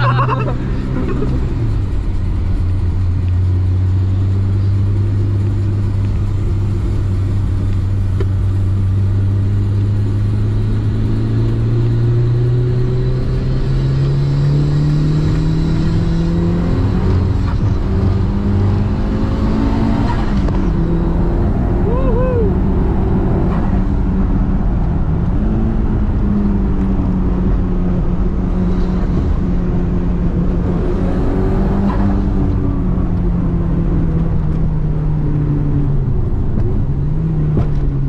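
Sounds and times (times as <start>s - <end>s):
car engine from inside: 0.0s - 38.0s.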